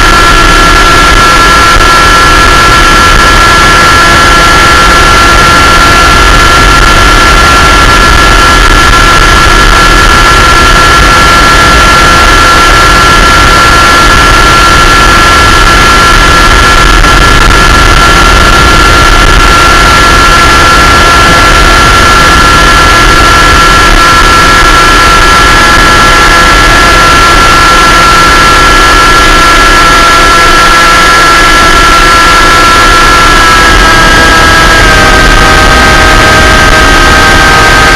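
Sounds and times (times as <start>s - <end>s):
aircraft engine whine: 0.0s - 25.0s, 28.2s - 37.9s.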